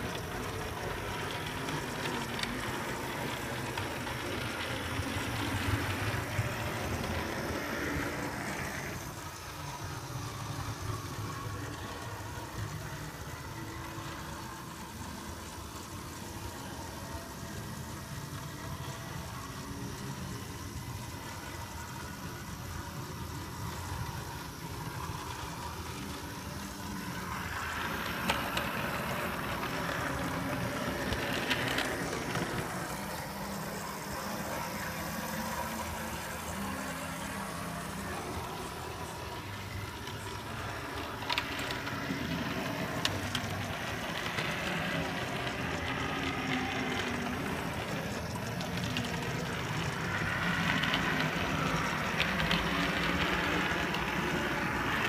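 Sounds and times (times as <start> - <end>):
model train motor whir: 0.0 - 55.0.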